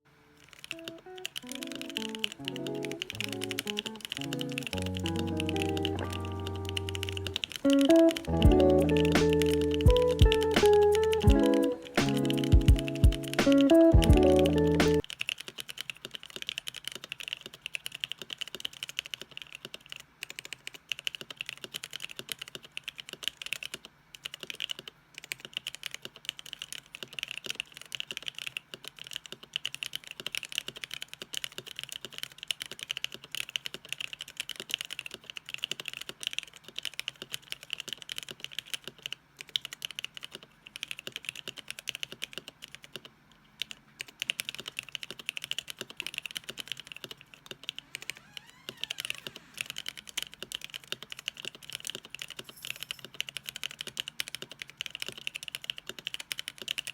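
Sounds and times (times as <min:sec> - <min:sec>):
typing on mechanical keyboard: 0:00.3 - 0:56.9.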